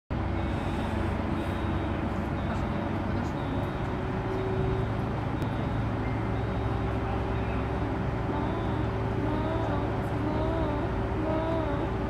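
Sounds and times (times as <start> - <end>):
diesel engine humming: 0.1 - 12.0.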